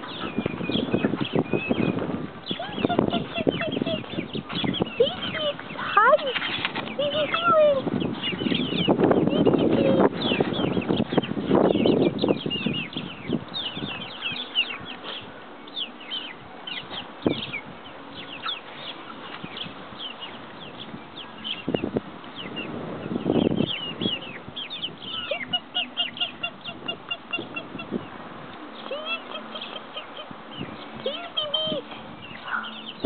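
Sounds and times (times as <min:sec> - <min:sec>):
baby chicks peeping: 0:00.0 - 0:33.0.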